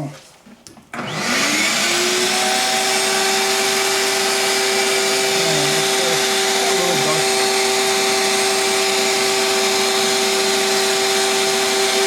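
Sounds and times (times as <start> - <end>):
vacuum cleaner running: 0.9 - 12.0.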